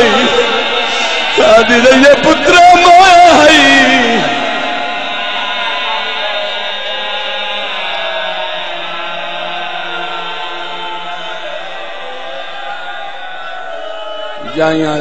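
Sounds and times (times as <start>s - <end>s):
crowd crying out in lament: 0.0s - 15.0s.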